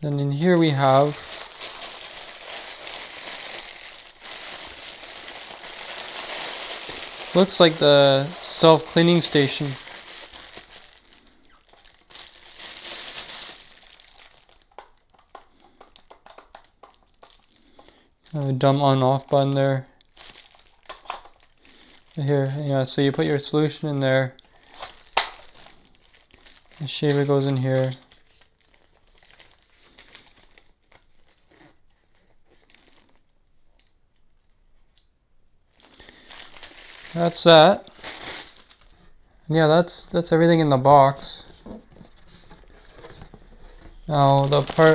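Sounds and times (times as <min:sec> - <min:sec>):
packaging crinkling: 0:00.2 - 0:18.4, 0:20.0 - 0:23.4, 0:24.4 - 0:34.3, 0:35.7 - 0:39.1, 0:41.2 - 0:44.9.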